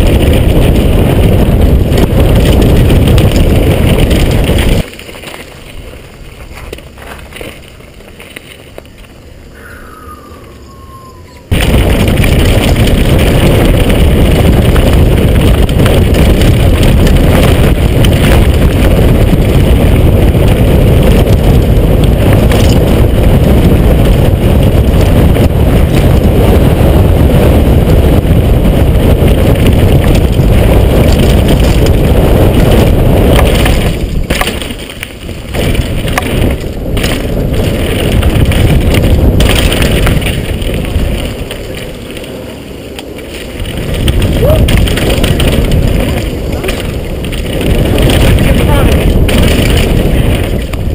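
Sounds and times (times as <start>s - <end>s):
wind buffeting microphone: 0.0s - 5.0s, 5.6s - 50.9s.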